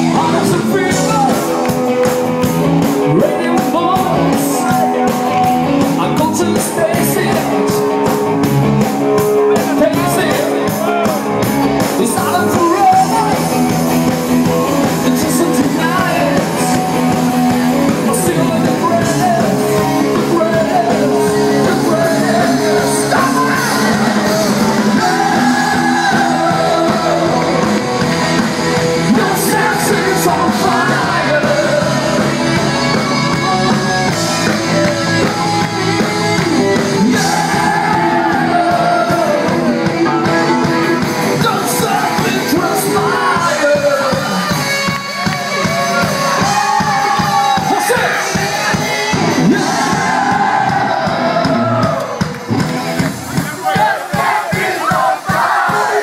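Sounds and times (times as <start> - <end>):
live band with singer: 0.0 - 56.0.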